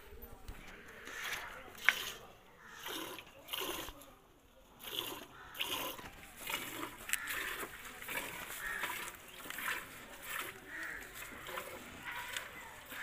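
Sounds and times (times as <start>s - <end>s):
milk squirting into steel bucket: 1.0s - 4.1s, 4.8s - 13.0s.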